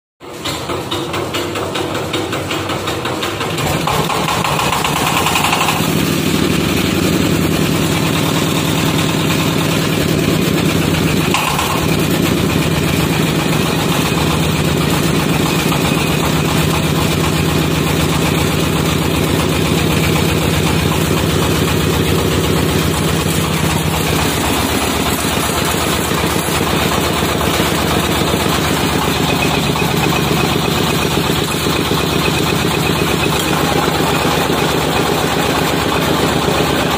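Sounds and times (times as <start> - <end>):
diesel engine running steadily: 0.2 - 36.9.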